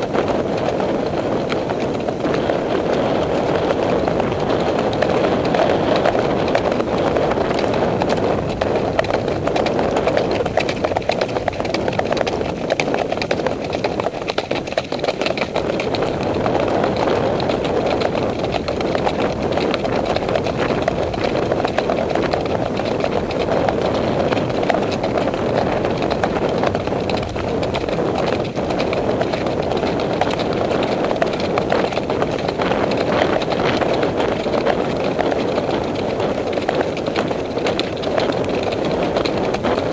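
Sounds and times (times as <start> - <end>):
hoofbeats on dirt: 0.0 - 39.9
wind rumble on microphone: 0.0 - 39.9.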